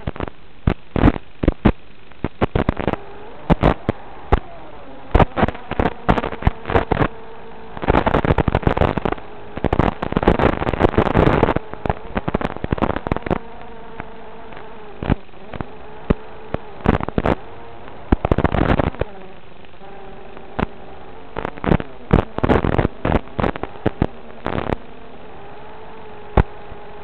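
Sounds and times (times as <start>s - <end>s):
loud crackling bursts: 0.0s - 27.0s
quadcopter motors buzzing: 1.6s - 27.0s.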